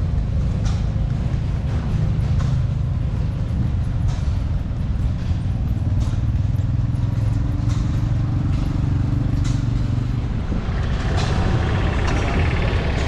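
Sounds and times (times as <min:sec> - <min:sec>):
large engine running: 0:00.0 - 0:13.0.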